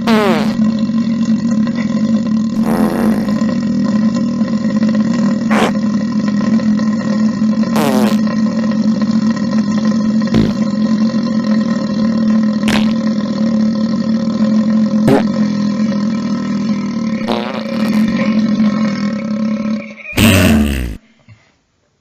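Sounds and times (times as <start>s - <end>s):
man belching: 0.0s - 21.0s.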